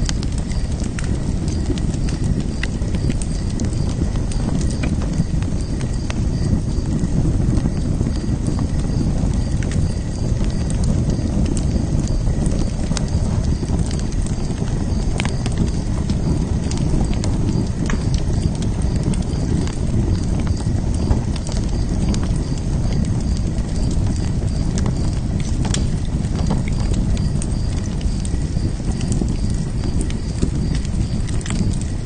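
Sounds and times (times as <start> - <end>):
fire crackles and pops: 0.0 - 32.0
wood fire rumbling: 0.0 - 32.0.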